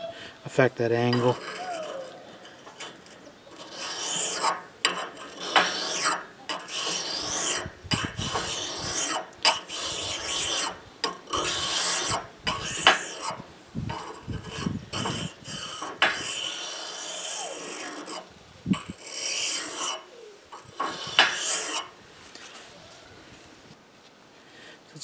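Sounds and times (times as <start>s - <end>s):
blade scraping on sharpening stone: 1.0s - 22.0s.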